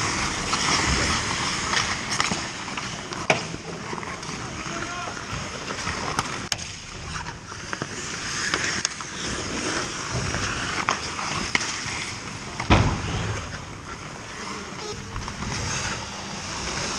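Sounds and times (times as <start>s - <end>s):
hockey sticks and puck clacking: 0.0s - 16.9s
skates scraping on ice: 0.0s - 16.9s.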